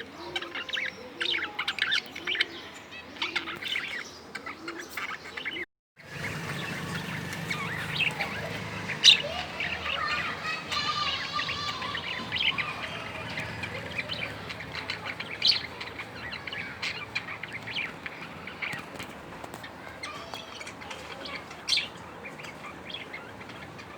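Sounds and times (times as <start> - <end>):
budgerigars chirping and warbling: 0.0 - 23.9.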